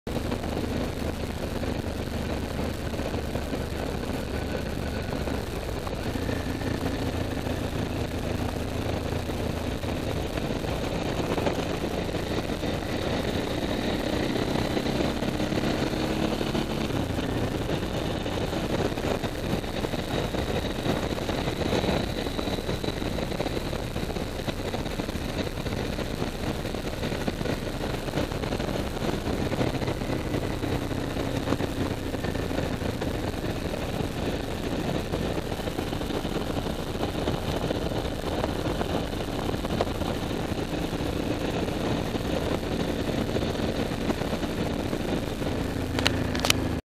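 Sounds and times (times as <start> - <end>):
motorcycle engine running: 0.0 - 46.8
wind and road noise: 0.0 - 46.8.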